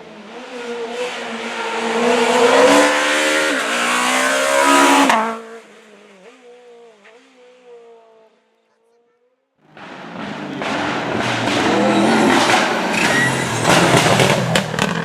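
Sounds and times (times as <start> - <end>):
rally car engine passing: 0.0 - 8.4, 9.6 - 15.0.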